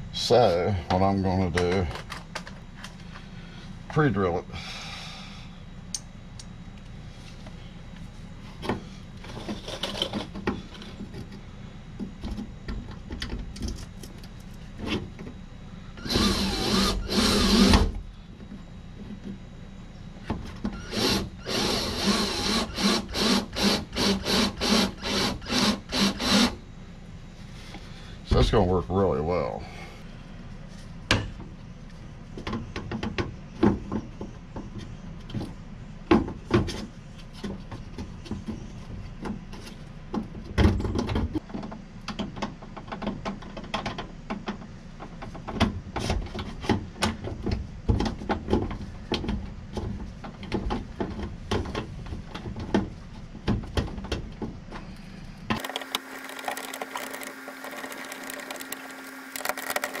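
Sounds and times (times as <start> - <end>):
mechanical hum: 0.0 - 60.0.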